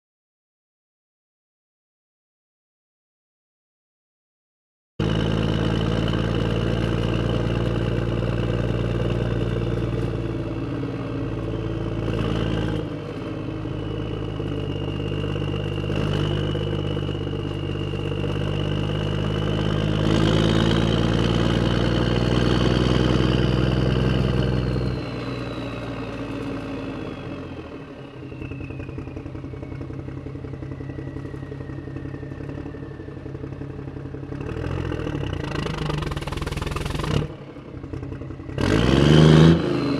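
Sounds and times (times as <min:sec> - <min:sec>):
heavy vehicle engine humming: 0:05.0 - 0:39.9.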